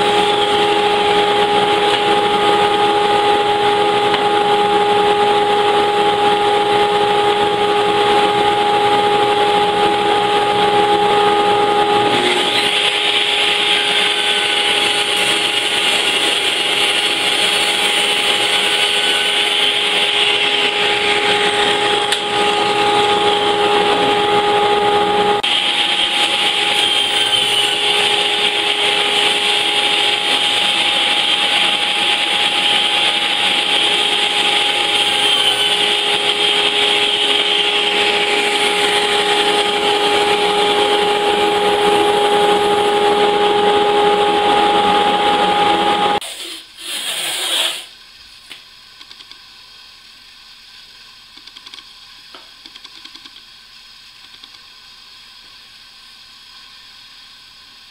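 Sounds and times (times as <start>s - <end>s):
table saw cutting wood: 0.0s - 48.0s.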